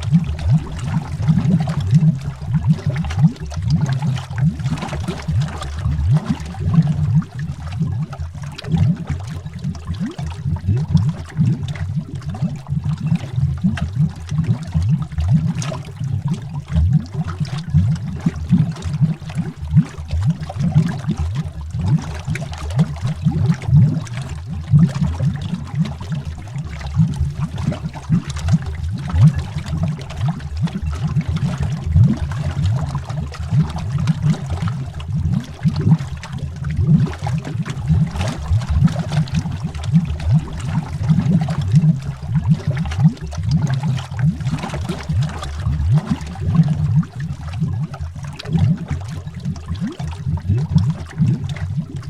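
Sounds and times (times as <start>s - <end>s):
underwater bubbling: 0.0s - 52.0s.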